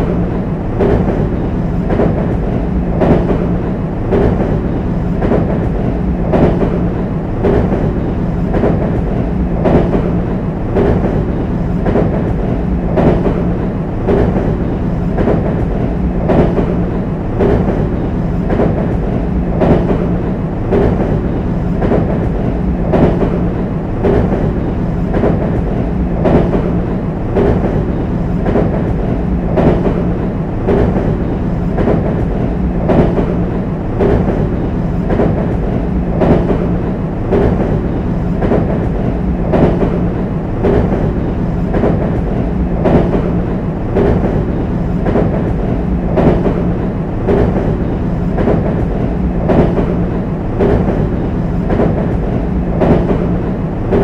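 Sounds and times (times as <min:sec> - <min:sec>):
train rumble and hum: 0:00.0 - 0:54.0
train wheels clacking: 0:00.0 - 0:54.0.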